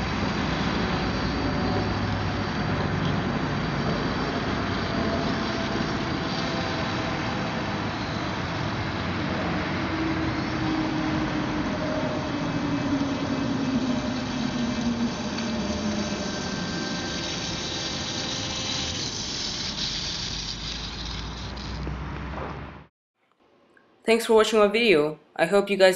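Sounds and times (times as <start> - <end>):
electric motor and propeller humming: 0.0 - 22.5.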